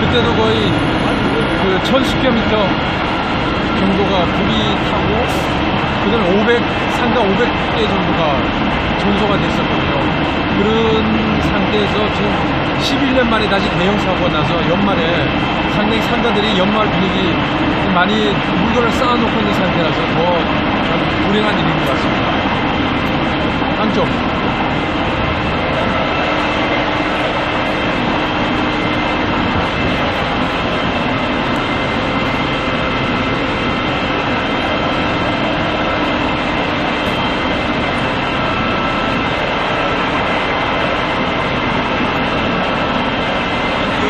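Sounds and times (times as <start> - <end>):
loud machine drone: 0.0 - 44.0.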